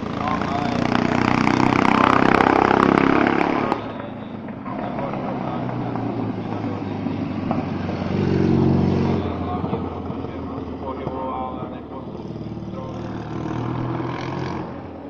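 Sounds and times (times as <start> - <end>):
racing motorcycle engine revving: 0.0 - 15.0
sidecar engine passing by: 0.0 - 15.0.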